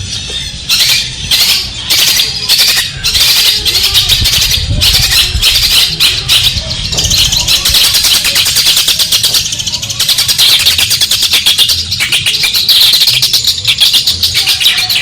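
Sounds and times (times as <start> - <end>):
bird harsh chattering calls: 0.0 - 15.0.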